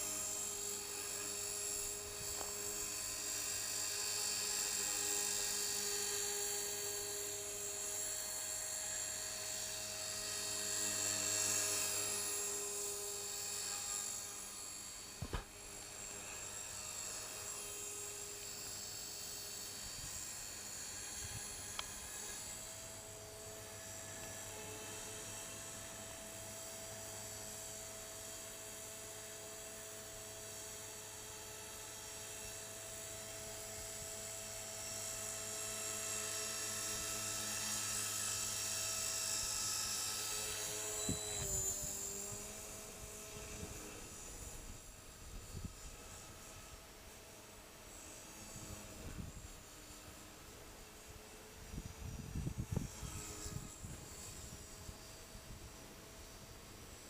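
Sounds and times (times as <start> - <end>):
rc helicopter motor whine: 0.0 - 57.0.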